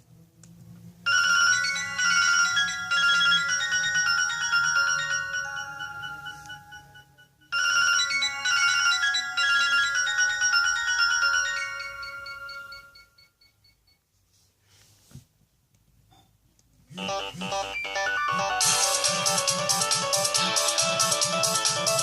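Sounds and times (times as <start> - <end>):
electronic ringtone melody: 1.1 - 13.9, 17.0 - 22.0.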